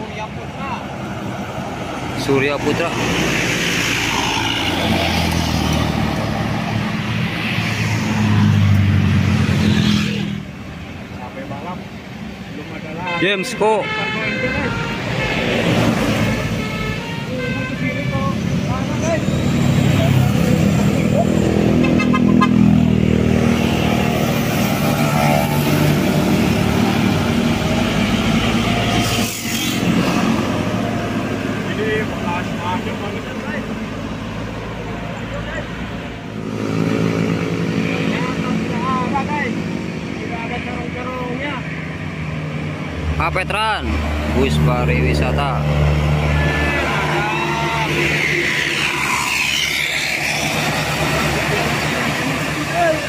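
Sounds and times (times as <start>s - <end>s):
bus diesel engine passing: 0.0s - 53.0s
road noise: 0.0s - 53.0s.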